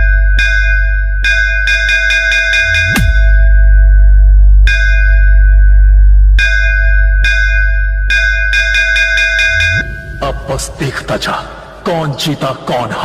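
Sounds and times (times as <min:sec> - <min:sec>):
bell-like synth tone: 0:00.0 - 0:10.8
deep bass drone: 0:00.0 - 0:11.9.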